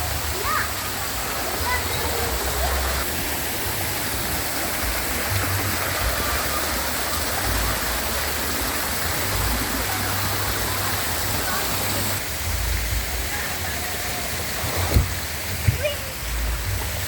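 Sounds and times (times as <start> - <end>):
falling water rushing: 0.0 - 17.0.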